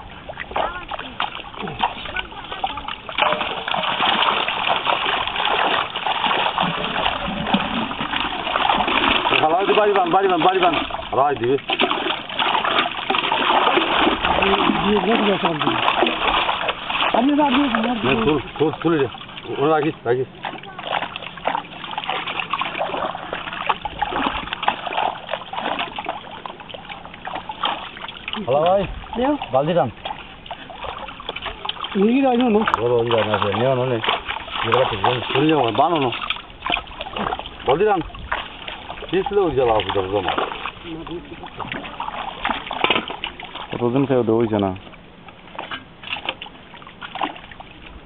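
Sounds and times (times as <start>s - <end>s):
fish splashing in shallow water: 0.0s - 48.0s.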